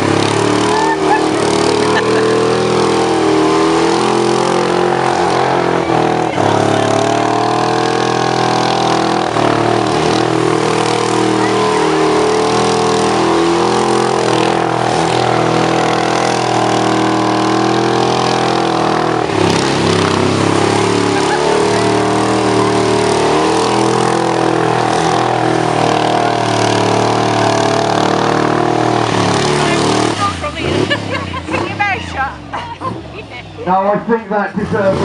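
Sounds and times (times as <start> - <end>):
car engine at high revs: 0.0 - 35.0.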